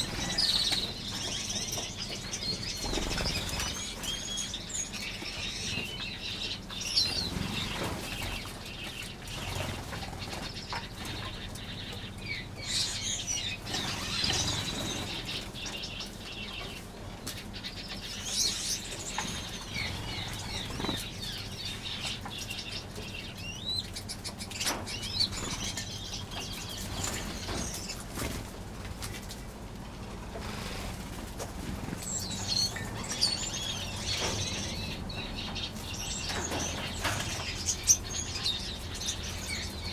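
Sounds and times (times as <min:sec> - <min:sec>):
finches chirping: 0:00.0 - 0:28.4, 0:31.6 - 0:39.9.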